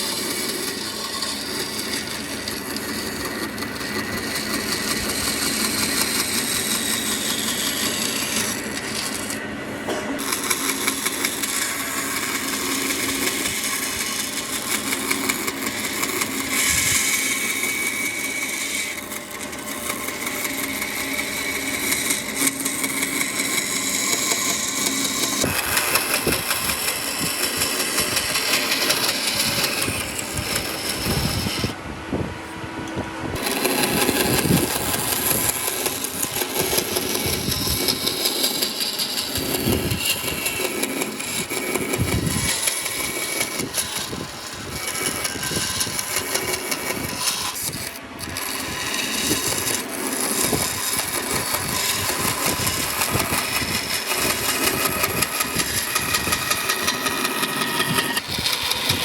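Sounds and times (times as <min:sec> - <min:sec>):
power tools working wood: 0:00.0 - 0:31.8, 0:33.4 - 0:59.0.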